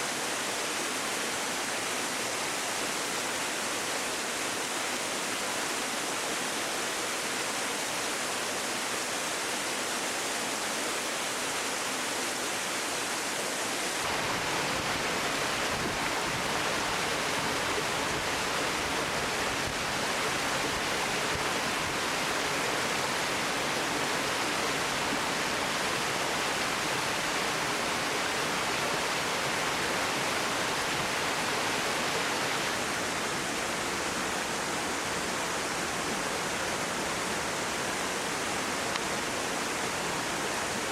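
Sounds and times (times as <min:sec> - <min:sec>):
water rushing in a stream: 0:00.0 - 0:40.9.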